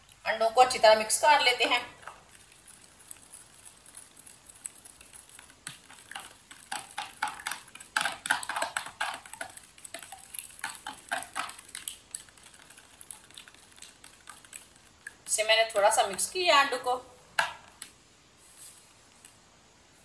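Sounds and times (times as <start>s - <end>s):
spoon beating eggs in bowl: 1.2s - 17.9s.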